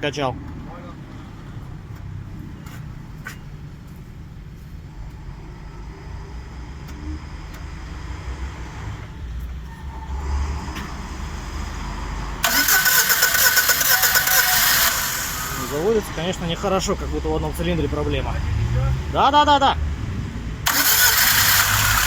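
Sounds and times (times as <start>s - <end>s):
car engine cranking and starting: 0.4s - 19.2s, 20.6s - 22.0s.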